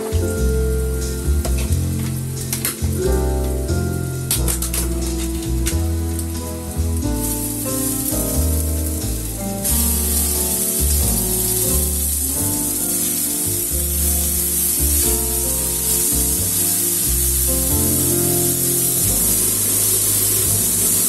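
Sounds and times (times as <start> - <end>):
background music with bass line: 0.0 - 21.0
meat sizzling in hot oil: 3.8 - 21.0.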